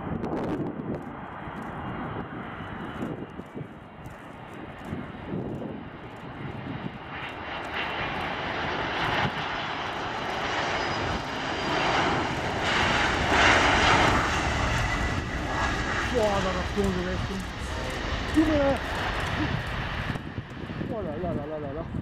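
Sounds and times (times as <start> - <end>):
jet engines on approach: 0.0 - 22.0.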